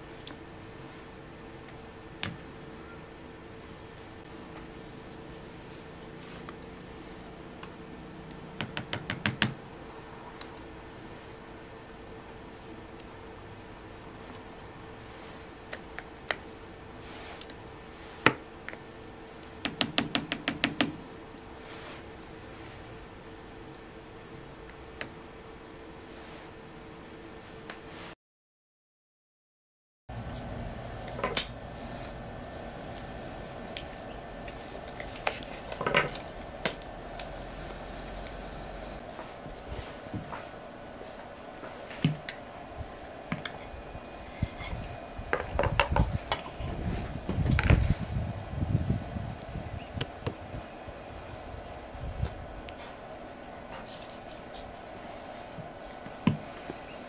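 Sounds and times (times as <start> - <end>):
low background hum: 0.0 - 28.2, 30.1 - 57.0.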